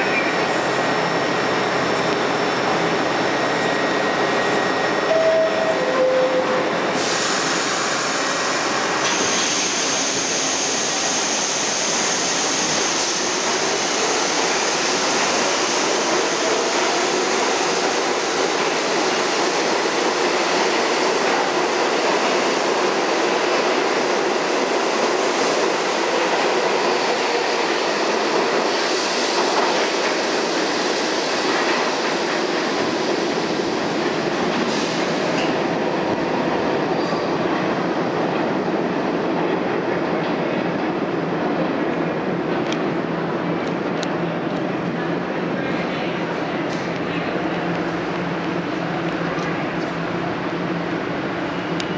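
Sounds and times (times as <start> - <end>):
subway train motor whine: 0.0 - 51.9.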